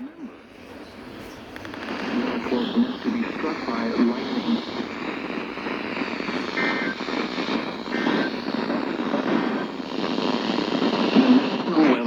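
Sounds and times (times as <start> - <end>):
faint two-tone data bursts: 0.0 - 12.0
radio static hiss: 0.0 - 12.0.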